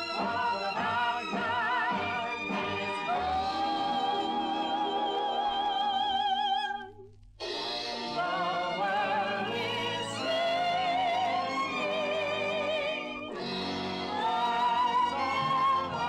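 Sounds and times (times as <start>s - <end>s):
old radio orchestral song: 0.0s - 6.8s, 7.4s - 16.0s.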